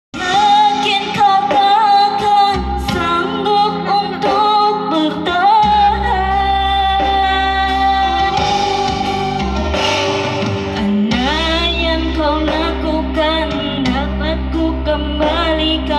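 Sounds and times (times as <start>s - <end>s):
electronic keyboard accompaniment: 0.2s - 15.9s
woman singing into microphone: 0.2s - 15.9s.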